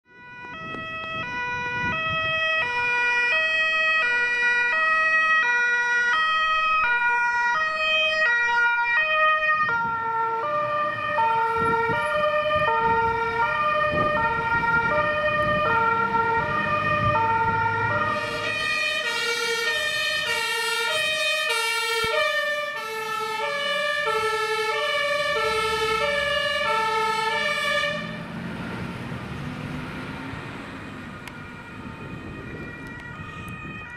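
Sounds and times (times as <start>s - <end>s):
two-tone fire engine siren: 0.0s - 33.9s
truck engine rumbling: 6.2s - 33.9s.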